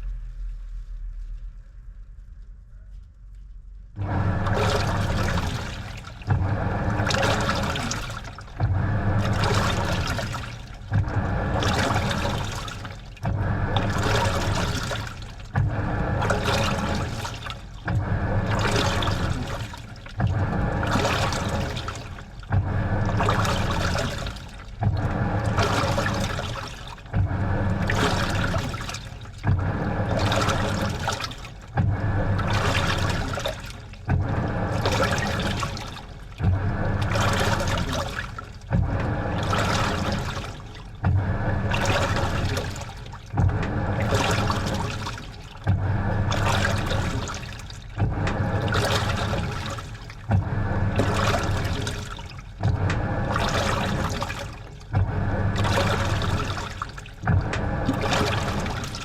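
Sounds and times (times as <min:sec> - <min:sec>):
washing machine water sloshing: 0:03.9 - 0:59.0.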